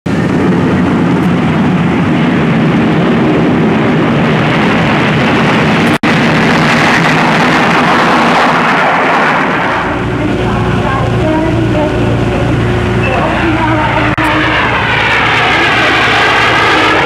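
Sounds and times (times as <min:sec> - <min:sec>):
jetliner engines landing: 0:00.1 - 0:17.0.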